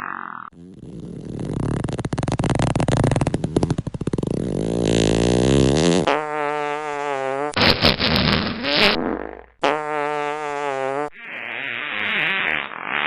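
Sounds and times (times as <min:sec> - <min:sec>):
fart sound effects: 0:00.0 - 0:13.0.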